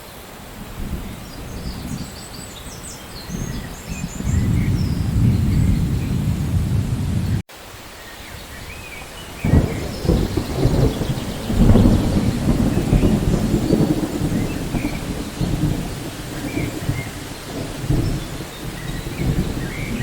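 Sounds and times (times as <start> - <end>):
steady rain: 0.0 - 20.0
rolling thunder: 0.5 - 7.4, 8.6 - 20.0.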